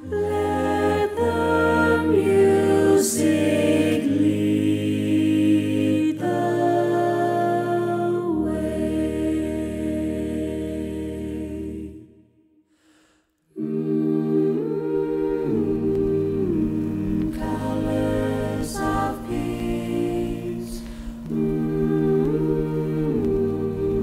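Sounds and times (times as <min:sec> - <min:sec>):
a cappella ensemble singing chords: 0:00.0 - 0:24.0.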